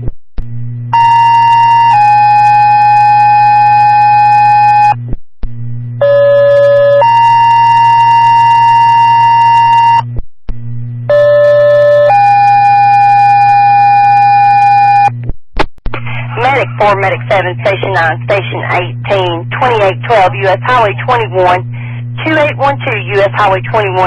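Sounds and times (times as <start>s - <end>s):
low steady hum: 0.0s - 15.3s, 15.9s - 24.0s.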